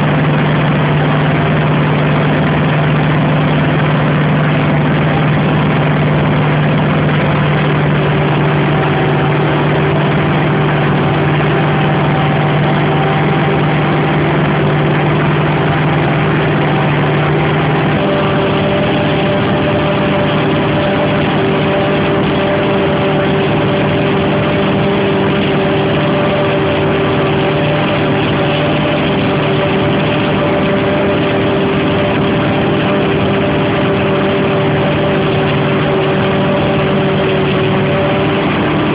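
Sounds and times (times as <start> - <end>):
forage harvester droning: 0.0 - 38.9.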